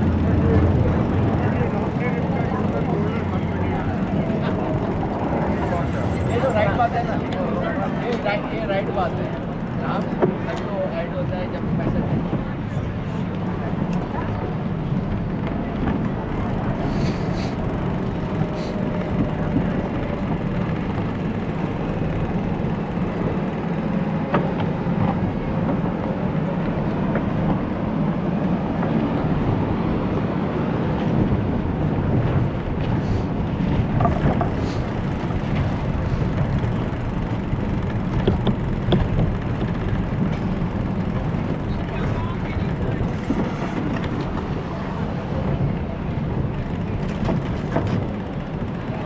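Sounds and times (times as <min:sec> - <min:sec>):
bicycle riding rumble: 0:00.0 - 0:49.0.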